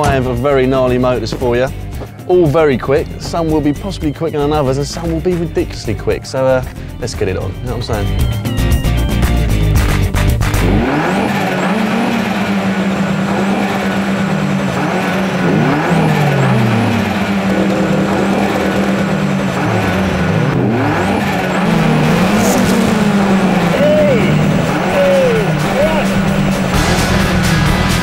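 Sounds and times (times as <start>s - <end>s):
race car engines idling and revving: 0.0s - 28.0s.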